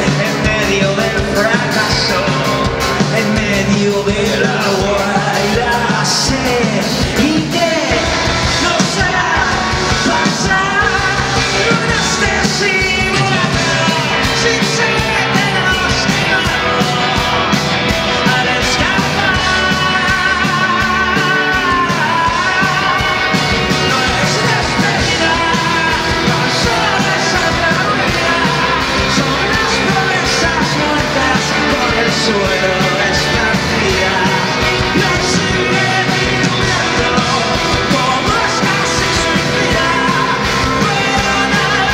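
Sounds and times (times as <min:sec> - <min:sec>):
live rock band playing: 0:00.0 - 0:41.9
man singing lead vocal: 0:00.0 - 0:41.9.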